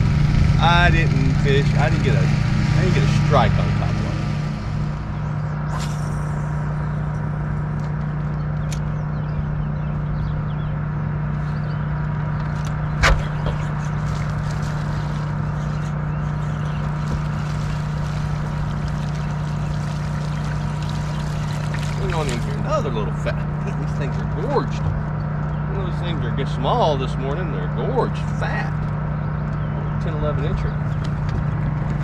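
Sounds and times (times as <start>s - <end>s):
electric boat motor hum: 0.0s - 32.0s.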